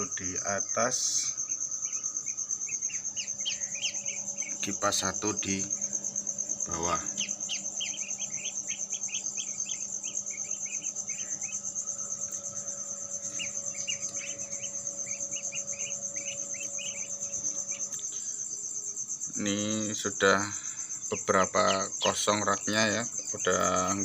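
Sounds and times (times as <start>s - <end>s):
cricket trilling: 0.0s - 24.0s
electric fans humming: 0.0s - 24.0s.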